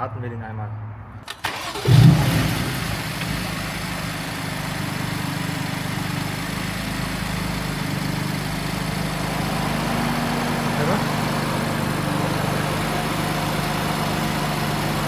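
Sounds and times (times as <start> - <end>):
car engine idling: 1.3 - 15.0.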